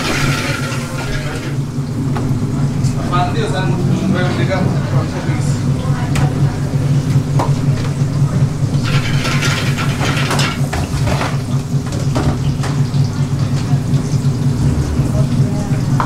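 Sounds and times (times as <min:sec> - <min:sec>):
kitchen clatter: 0:00.0 - 0:03.0, 0:06.0 - 0:16.0
kitchen equipment drone: 0:00.0 - 0:16.0.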